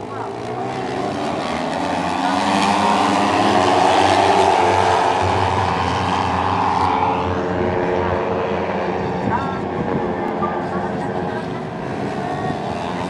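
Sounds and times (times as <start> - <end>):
racing motorcycles at high revs: 0.0 - 13.0.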